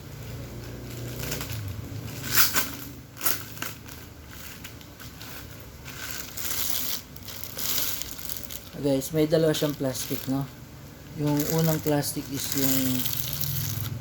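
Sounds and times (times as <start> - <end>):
plastic packaging crinkling: 0.7 - 14.0.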